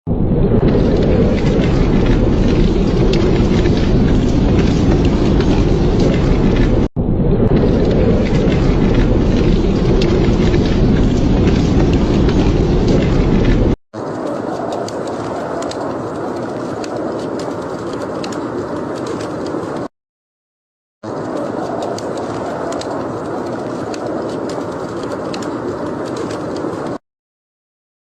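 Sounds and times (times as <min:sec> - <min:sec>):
burning wood crackling: 0:00.6 - 0:06.9, 0:07.5 - 0:19.9, 0:21.0 - 0:27.0.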